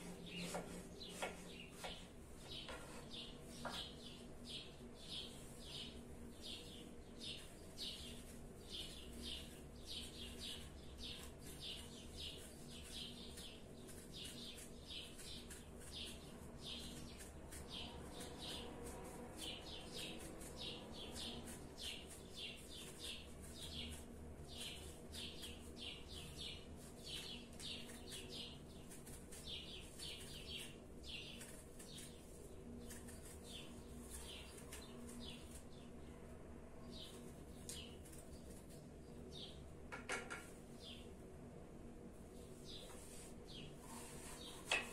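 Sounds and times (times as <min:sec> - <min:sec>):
bird chirping: 0:00.2 - 0:36.2.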